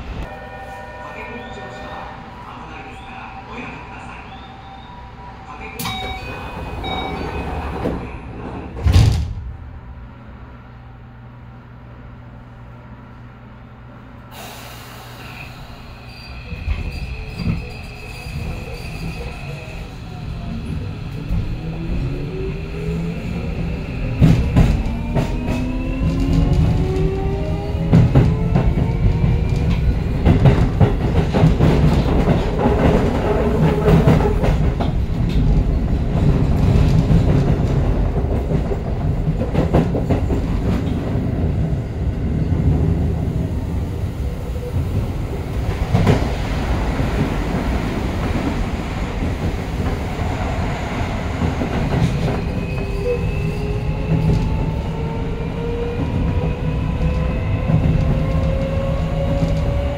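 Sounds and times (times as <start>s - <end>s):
train rolling rumble: 2.0s - 59.9s.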